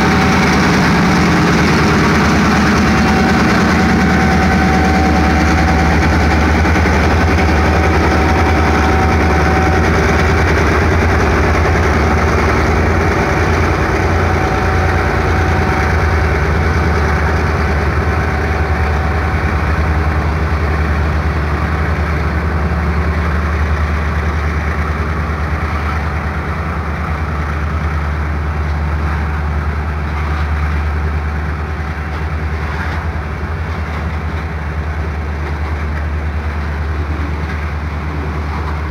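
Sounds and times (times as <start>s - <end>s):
low drone: 0.0s - 31.4s
train wheels rumbling on rail: 0.0s - 38.9s.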